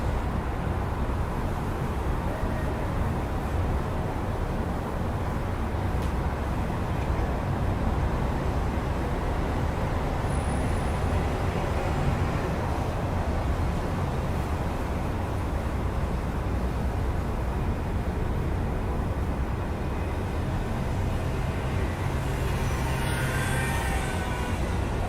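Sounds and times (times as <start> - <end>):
city road traffic rumble: 0.0 - 25.0.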